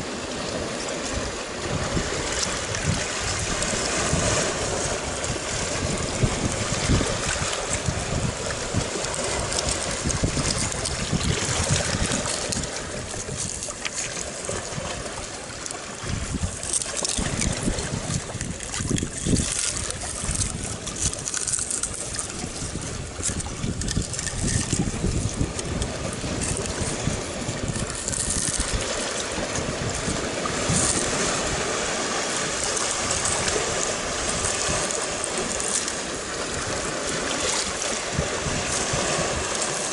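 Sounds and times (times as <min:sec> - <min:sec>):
sea water washing against rocks: 0:00.0 - 0:39.9
wind buffeting microphone: 0:00.0 - 0:39.9.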